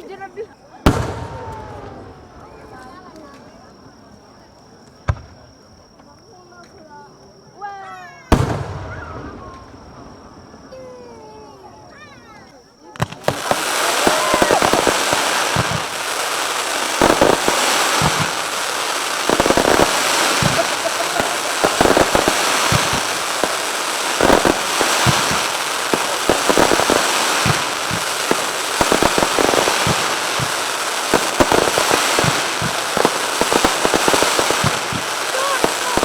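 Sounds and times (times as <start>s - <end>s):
fireworks crackle and hiss: 0.0s - 6.9s, 8.1s - 36.0s
fireworks booming: 0.8s - 3.6s, 5.0s - 5.9s, 8.3s - 11.4s, 12.9s - 36.0s.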